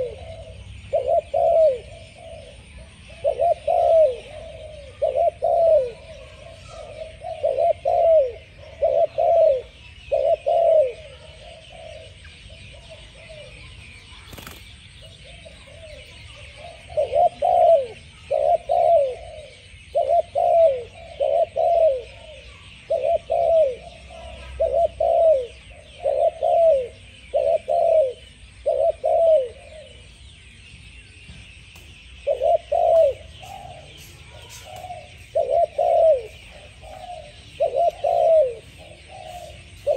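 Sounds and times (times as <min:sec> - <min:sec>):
dove cooing: 0:00.0 - 0:30.1, 0:32.2 - 0:39.9.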